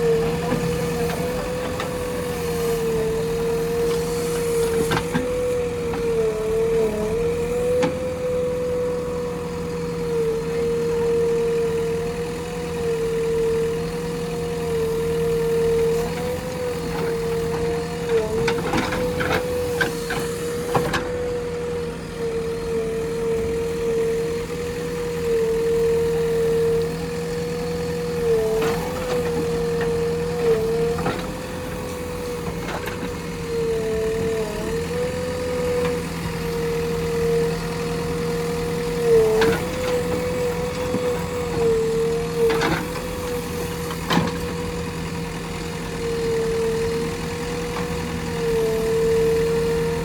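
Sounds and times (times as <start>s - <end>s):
backhoe loader engine running: 0.0s - 50.0s.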